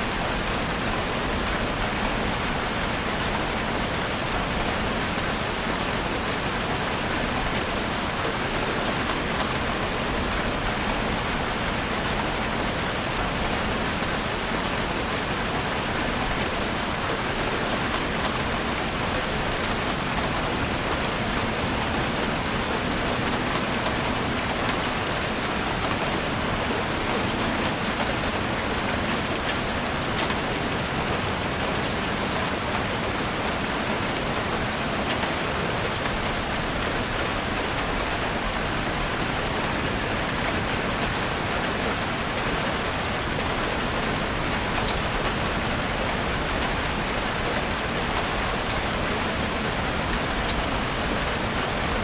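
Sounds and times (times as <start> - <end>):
heavy rain drumming on a roof: 0.0 - 52.0.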